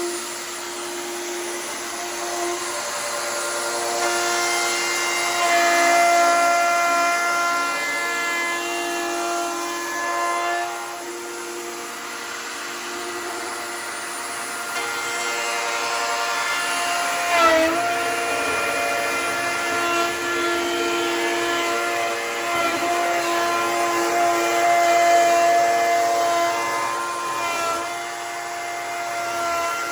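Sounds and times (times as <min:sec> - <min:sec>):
electric power tool running: 0:00.0 - 0:29.9.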